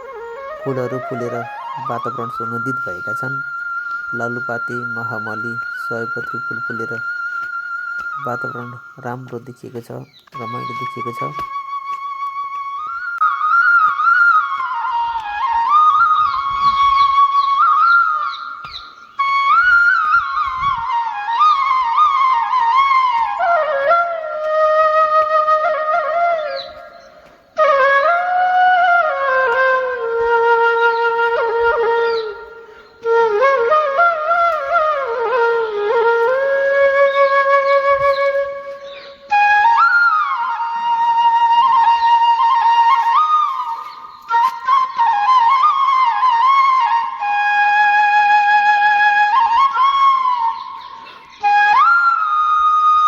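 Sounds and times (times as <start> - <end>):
solo flute melody: 0.0 - 53.0.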